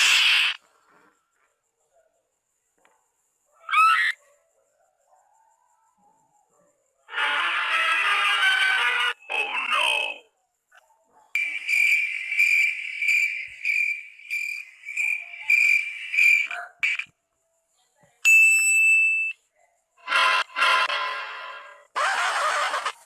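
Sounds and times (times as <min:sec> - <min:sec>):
cricket chirping: 0:00.0 - 0:07.4, 0:09.1 - 0:21.9.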